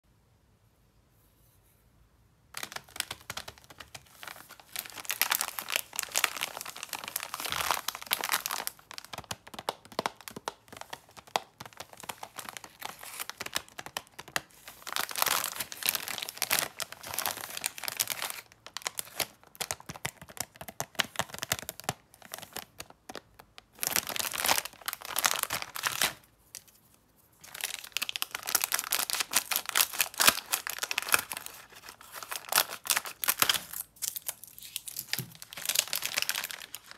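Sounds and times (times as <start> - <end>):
plastic film crinkling: 2.6 - 36.9.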